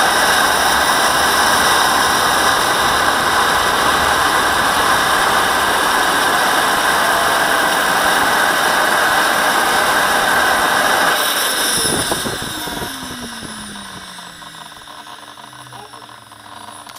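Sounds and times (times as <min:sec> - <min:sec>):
jet turbine running and spinning down: 0:00.0 - 0:16.9.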